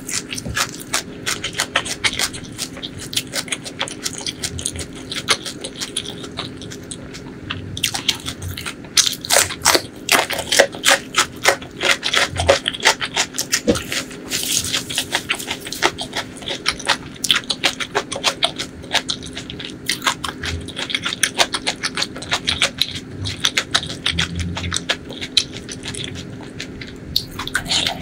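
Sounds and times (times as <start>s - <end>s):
wet chewing and lip smacks: 0.0s - 28.0s.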